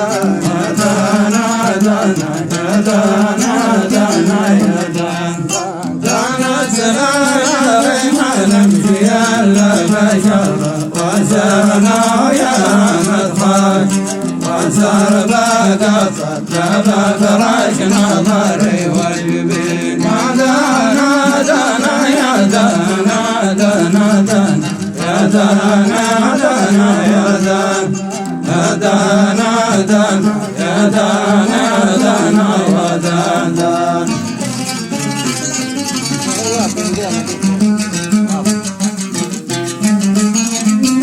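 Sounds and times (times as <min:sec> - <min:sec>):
men chanting: 0:00.0 - 0:41.0.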